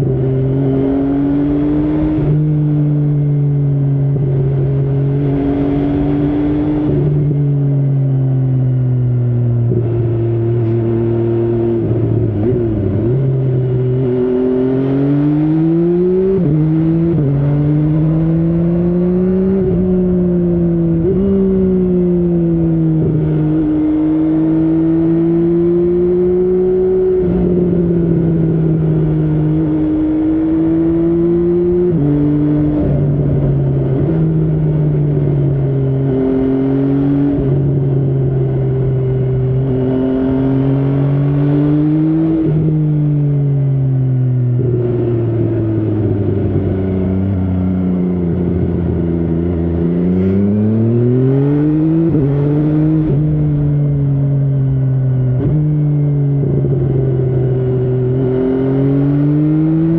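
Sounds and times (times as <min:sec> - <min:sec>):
motorcycle engine revving and shifting: 0:00.0 - 0:59.9.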